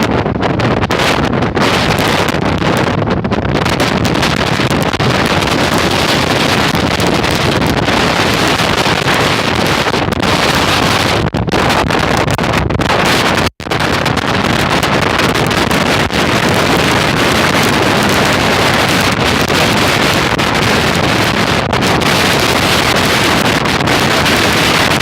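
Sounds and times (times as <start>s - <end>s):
strong wind on microphone: 0.0s - 25.0s.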